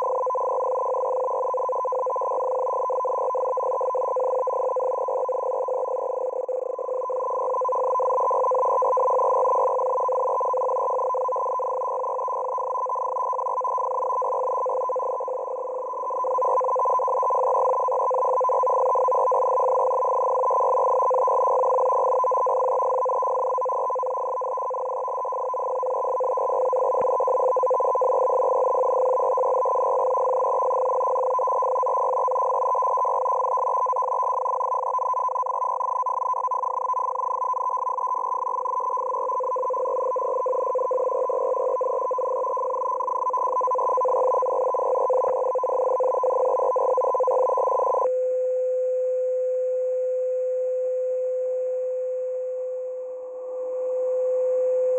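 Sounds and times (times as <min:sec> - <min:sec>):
buzzing two-tone data signal: 0:00.0 - 0:54.9.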